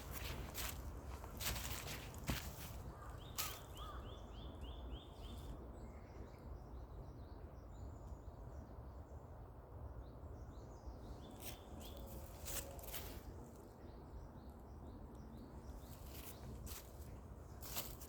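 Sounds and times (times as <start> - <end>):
small birds chirping: 0.0 - 8.4, 10.5 - 18.0
low rumble of background noise: 0.0 - 18.0.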